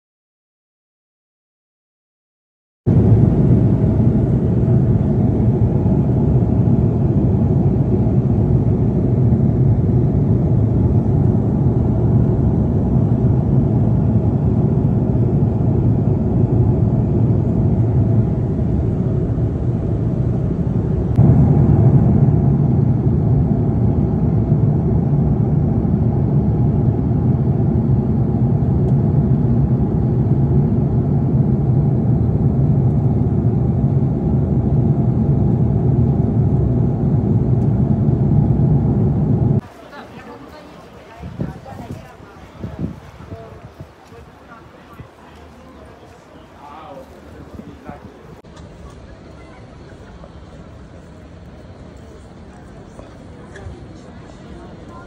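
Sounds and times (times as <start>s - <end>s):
jet engine drone in cabin: 2.9s - 55.0s.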